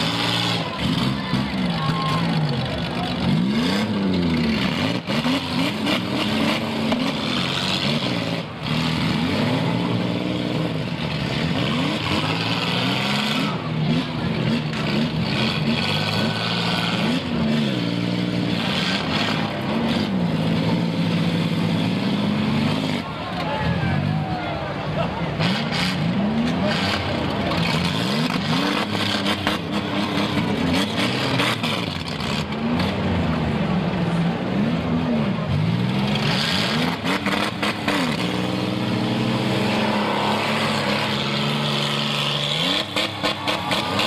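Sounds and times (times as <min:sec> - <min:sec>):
car engines revving hard: 0:00.0 - 0:44.0.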